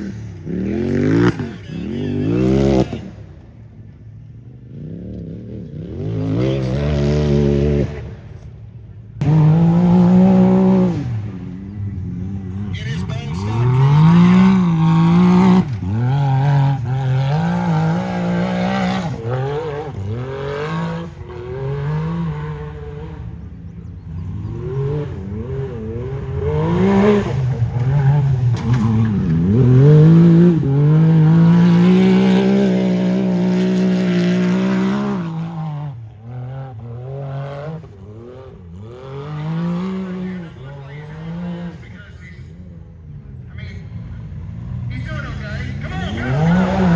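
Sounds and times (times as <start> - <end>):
vehicle engine revving: 0.0 - 46.9.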